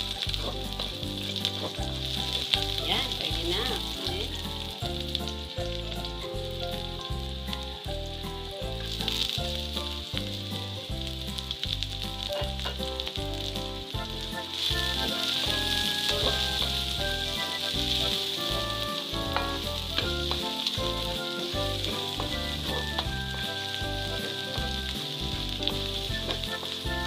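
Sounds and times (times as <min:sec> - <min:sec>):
onion and garlic sizzling in oil: 0:00.0 - 0:27.0.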